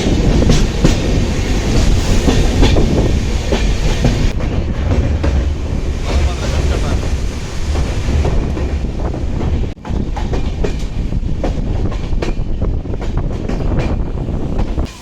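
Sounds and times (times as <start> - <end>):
passenger train rumbling: 0.0 - 15.0
wheels clacking over rail joints: 0.0 - 15.0.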